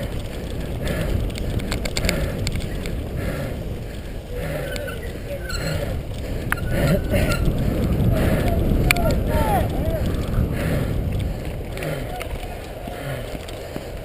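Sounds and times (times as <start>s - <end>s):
bike rattling clicks and knocks: 0.0s - 14.0s
wind and tyre rumble: 0.0s - 14.0s.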